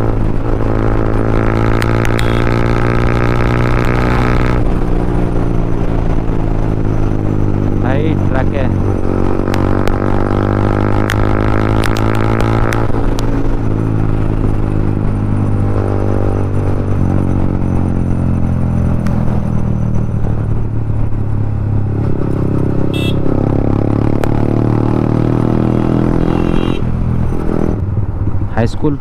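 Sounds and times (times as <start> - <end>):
motorcycle engine while riding: 0.0 - 29.0.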